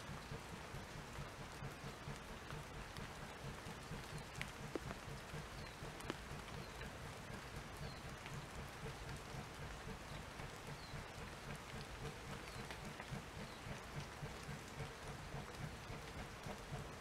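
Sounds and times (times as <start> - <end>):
light rain falling: 0.0 - 17.0
water drips: 0.0 - 17.0.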